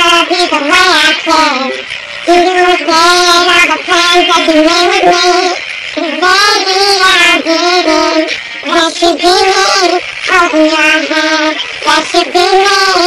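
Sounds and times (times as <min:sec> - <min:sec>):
girls singing loudly: 0:00.0 - 0:13.0.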